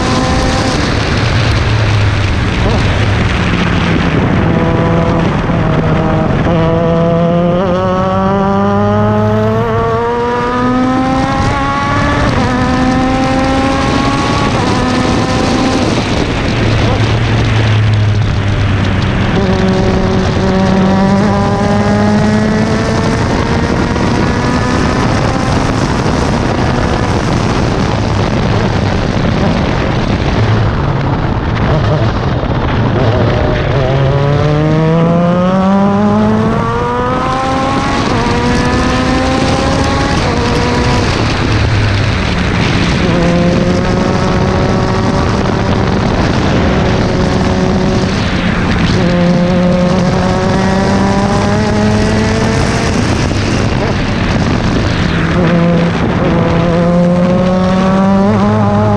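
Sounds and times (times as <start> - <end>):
race car engine accelerating: 0.0 - 58.9
wind noise: 0.0 - 58.9.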